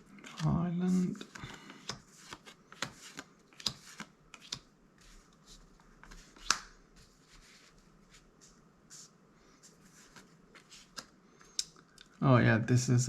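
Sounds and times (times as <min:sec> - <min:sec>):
cards sliding and rustling: 0:00.2 - 0:11.6.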